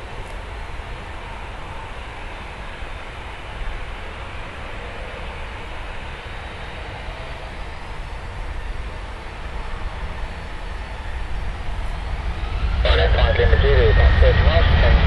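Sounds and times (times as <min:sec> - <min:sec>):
distant jet engines roaring: 0:00.0 - 0:15.0.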